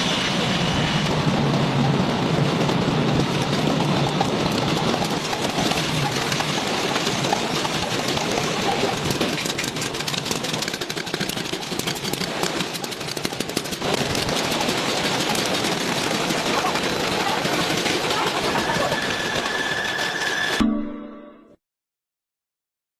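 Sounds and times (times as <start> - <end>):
noodle machinery running: 0.7 - 20.6
rapid clatter: 1.1 - 20.6.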